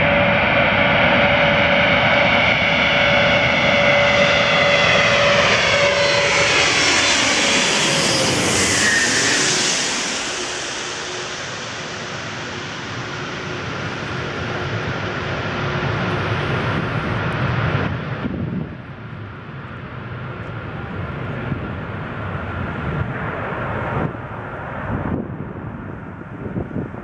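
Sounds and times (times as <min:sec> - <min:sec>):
jet aircraft landing rumble: 0:00.0 - 0:27.0.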